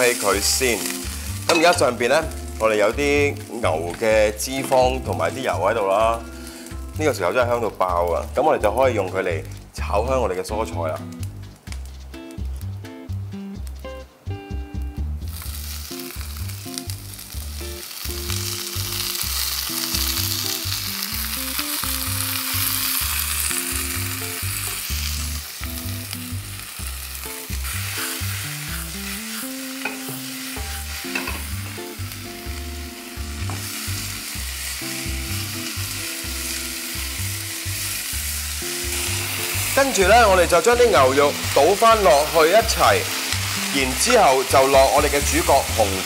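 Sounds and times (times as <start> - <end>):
vegetables sizzling in hot oil: 0.0 - 9.8, 10.4 - 46.0.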